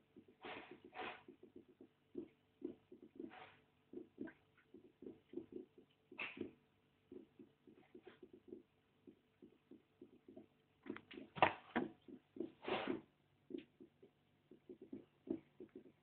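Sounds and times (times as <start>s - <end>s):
water gurgles: 0.0s - 16.0s.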